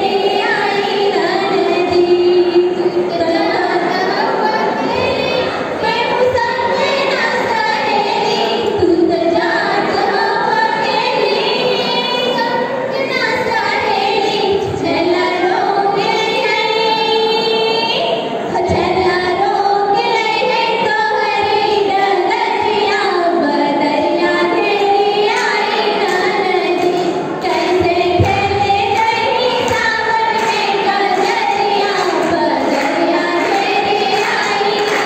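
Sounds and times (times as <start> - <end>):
women singing folk song: 0.0 - 35.0.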